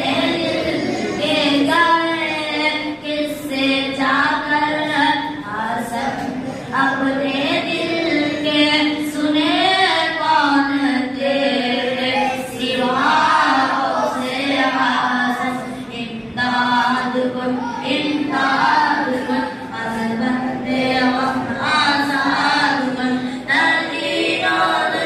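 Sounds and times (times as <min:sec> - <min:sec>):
boy singing unaccompanied: 0:00.0 - 0:25.0.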